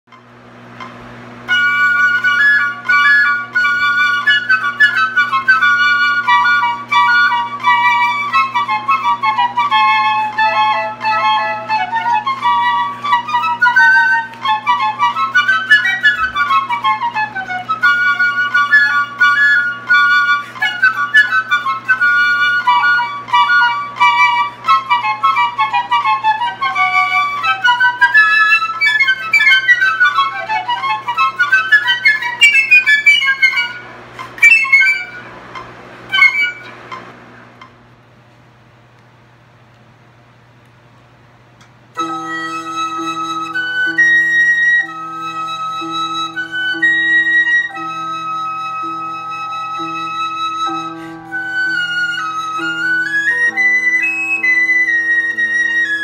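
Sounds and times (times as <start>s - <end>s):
piccolo duet: 0.1s - 37.8s, 41.9s - 56.0s.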